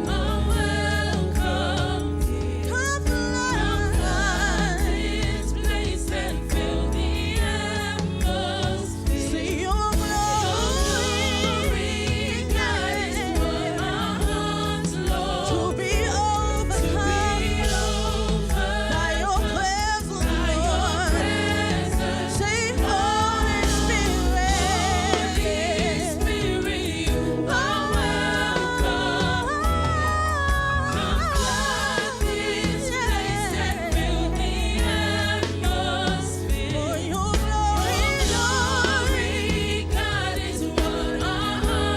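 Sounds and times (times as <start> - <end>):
band accompaniment: 0.0 - 41.9.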